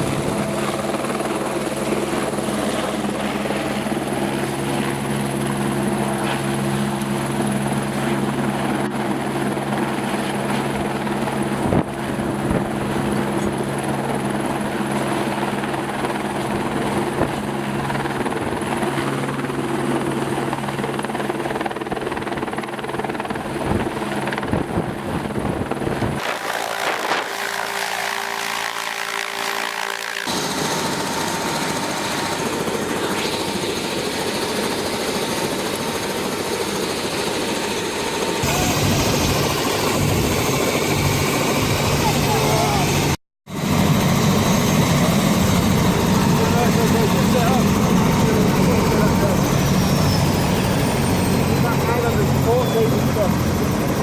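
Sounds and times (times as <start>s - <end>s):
helicopter rotor and turbine drone: 0.0s - 54.0s.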